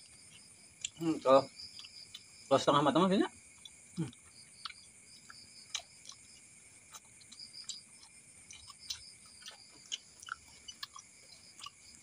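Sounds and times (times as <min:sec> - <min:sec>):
chewing clicks: 0:00.0 - 0:01.0, 0:01.7 - 0:02.3, 0:03.5 - 0:12.0
crickets chirping: 0:00.0 - 0:12.0.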